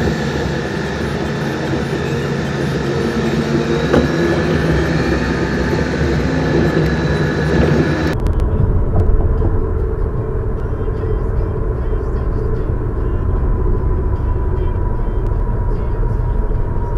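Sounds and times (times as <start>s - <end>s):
car road and engine noise: 0.0s - 16.9s.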